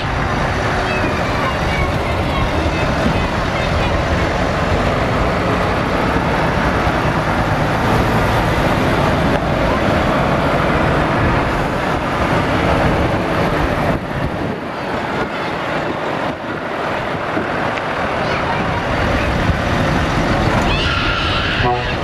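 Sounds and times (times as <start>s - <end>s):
truck diesel engines passing: 0.0s - 22.0s.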